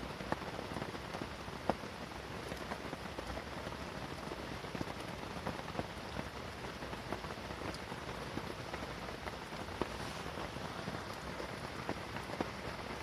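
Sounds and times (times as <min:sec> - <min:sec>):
raindrops ticking: 0:00.0 - 0:13.0
steady rain hiss: 0:00.0 - 0:13.0.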